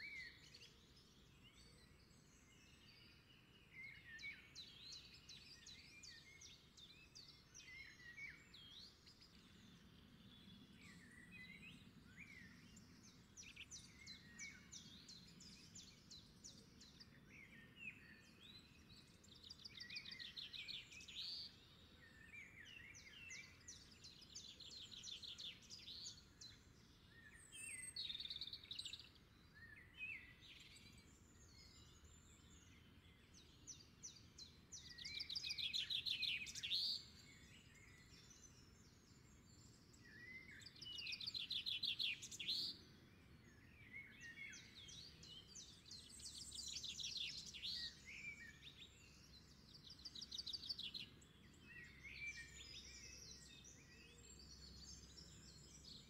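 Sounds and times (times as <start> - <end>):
birds chirping and trilling: 0.3 - 56.0.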